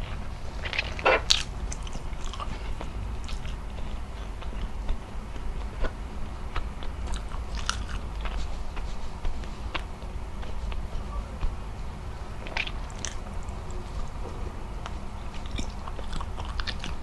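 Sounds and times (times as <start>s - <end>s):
wet chewing clicks and smacks: 0.0s - 11.6s, 12.4s - 17.0s.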